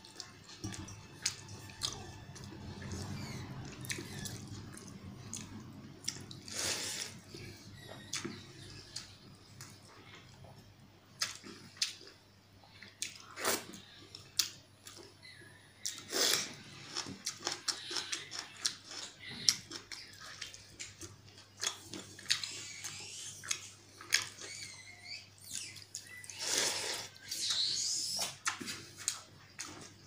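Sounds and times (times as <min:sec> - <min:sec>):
chewing and lip smacking: 0:00.0 - 0:10.5, 0:11.2 - 0:26.4, 0:27.1 - 0:30.0.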